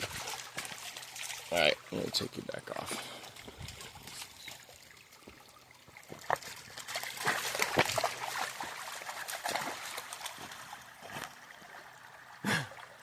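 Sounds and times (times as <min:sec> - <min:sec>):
splashing in shallow creek: 0:00.0 - 0:13.0
water trickling: 0:00.0 - 0:13.0.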